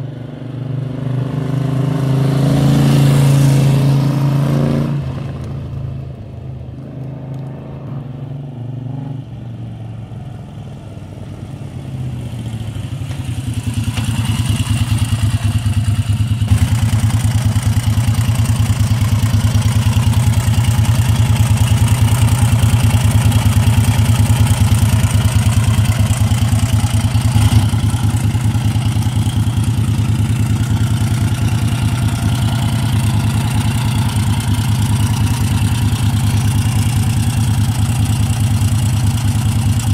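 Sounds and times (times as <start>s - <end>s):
motorcycle engine: 0.0s - 8.1s, 9.2s - 39.9s.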